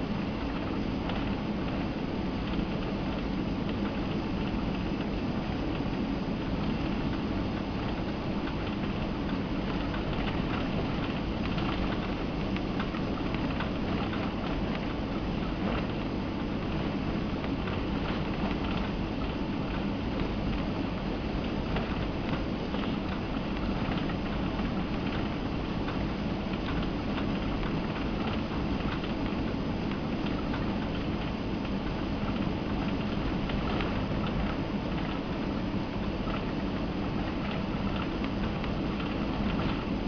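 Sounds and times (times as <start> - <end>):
cabin ticks and rattles: 0.1 - 40.0.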